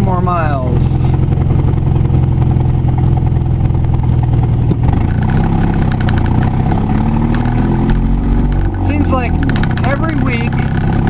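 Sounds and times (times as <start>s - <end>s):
vehicle engine drone from inside: 0.0s - 11.0s.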